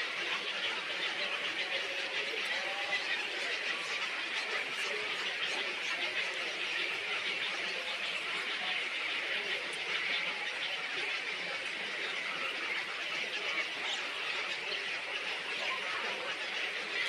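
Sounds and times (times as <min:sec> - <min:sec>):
small birds chattering: 0:00.0 - 0:17.0.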